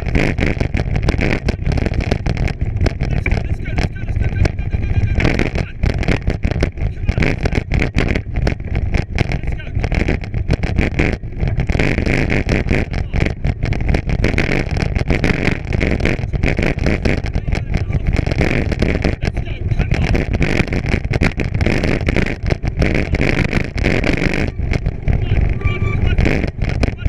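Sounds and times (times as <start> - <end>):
bicycle tyres rumbling over ground: 0.0 - 27.0
wind rushing over microphone: 0.0 - 27.0.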